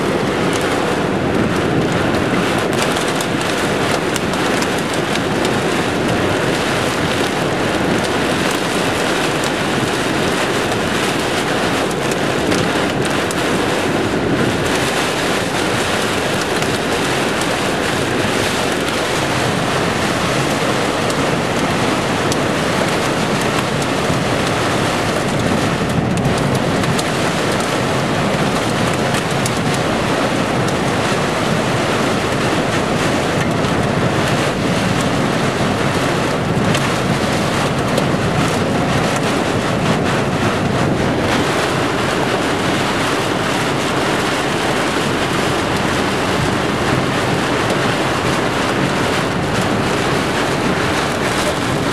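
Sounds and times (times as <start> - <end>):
torrential rain on a car: 0.0 - 51.9
tyre spray on wet road: 0.0 - 51.9.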